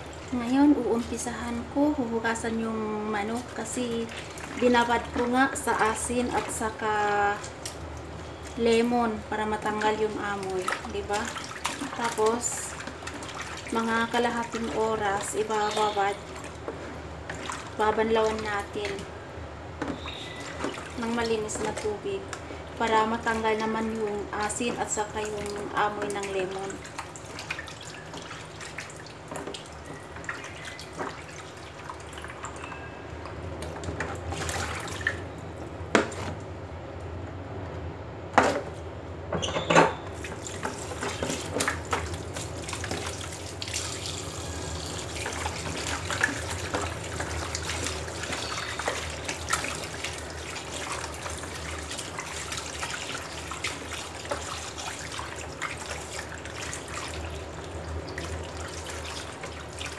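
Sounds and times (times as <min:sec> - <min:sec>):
water splashing and sloshing: 0:00.0 - 0:36.8, 0:38.3 - 0:59.9.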